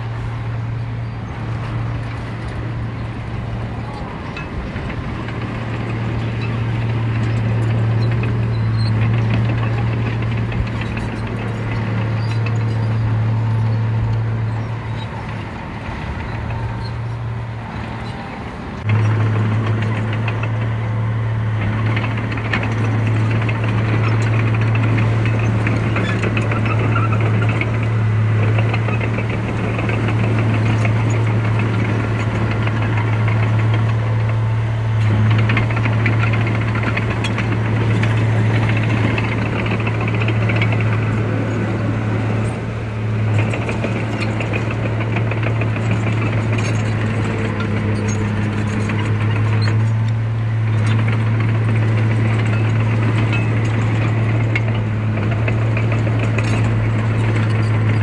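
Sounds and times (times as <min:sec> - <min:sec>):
heavy machine engine running: 0:00.0 - 0:58.0
rattling clatter: 0:03.9 - 0:58.0.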